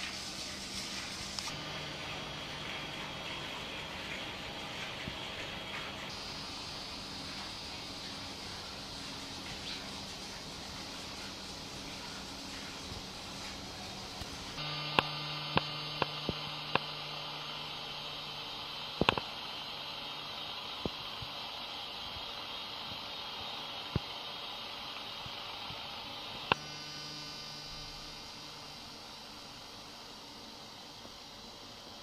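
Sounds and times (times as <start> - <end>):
indoor hum with hiss: 0.0 - 32.0.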